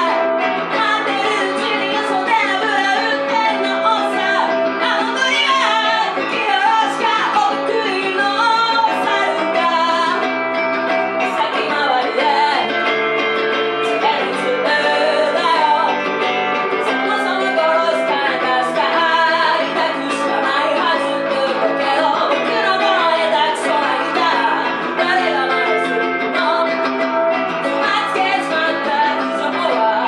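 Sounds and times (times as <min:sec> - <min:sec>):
person singing: 0:00.0 - 0:13.0, 0:13.7 - 0:30.0
electric guitar through amplifier: 0:00.0 - 0:30.0.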